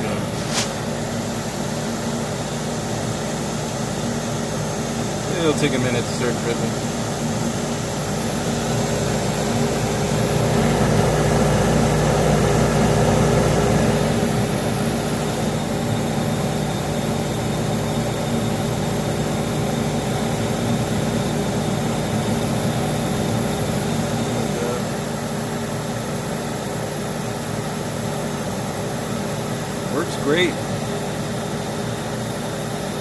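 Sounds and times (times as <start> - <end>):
dehumidifier fan and compressor humming: 0.0 - 33.0.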